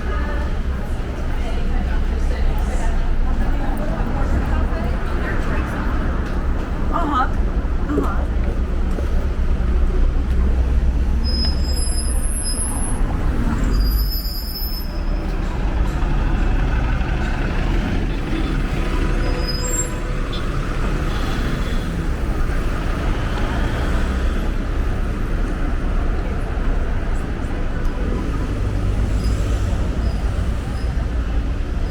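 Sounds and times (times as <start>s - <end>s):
city street traffic: 0.0s - 31.9s
heavy vehicle engine rumbling: 0.0s - 31.9s.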